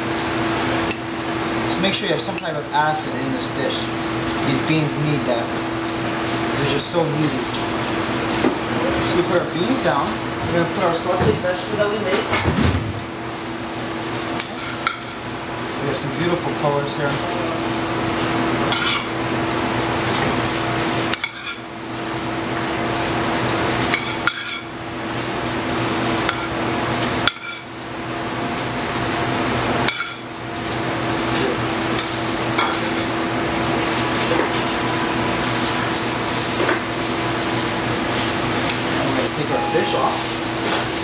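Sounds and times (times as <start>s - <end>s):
food frying: 0.0s - 41.0s
low kitchen hum: 0.0s - 41.0s.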